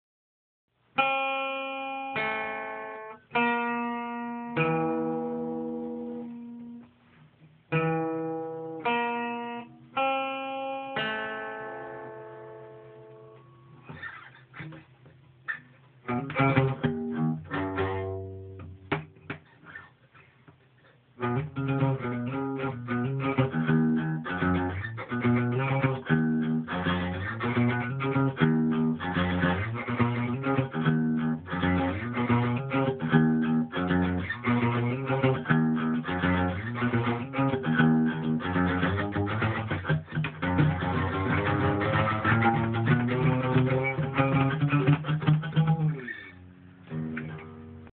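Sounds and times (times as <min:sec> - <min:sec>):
acoustic guitar: 0:01.0 - 0:47.9.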